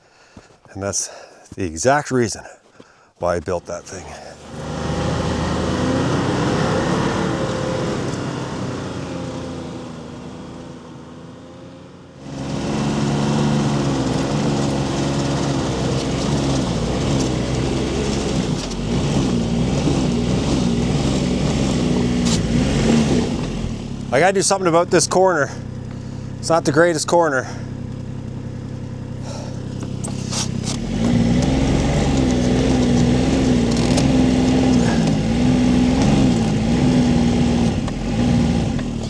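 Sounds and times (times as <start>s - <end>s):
snowmobile engine revving: 3.2s - 10.2s, 12.2s - 27.7s, 29.2s - 39.0s.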